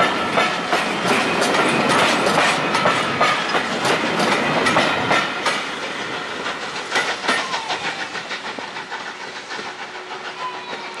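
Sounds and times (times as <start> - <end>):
train wheels clicking over rail joints: 0.0 - 11.0.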